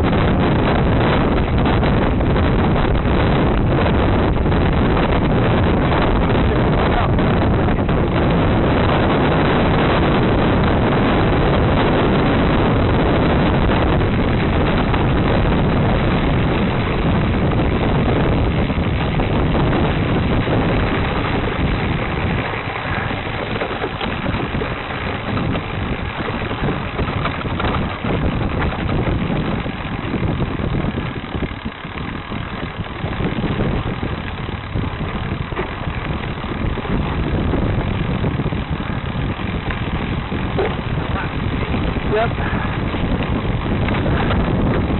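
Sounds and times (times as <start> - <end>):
bicycle tyre rumble on trail: 0.0 - 44.9
wind rushing over microphone: 0.0 - 44.9.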